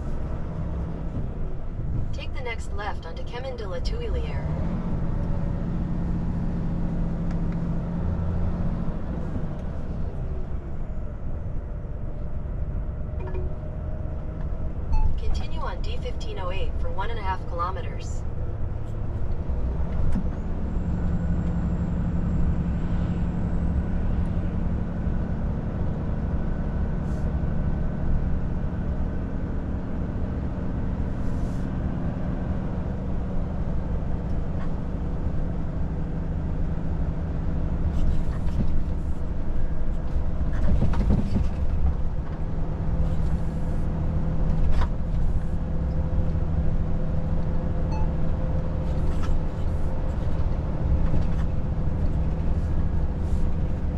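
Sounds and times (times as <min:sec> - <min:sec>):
truck engine drone in cab: 0:00.0 - 0:53.9.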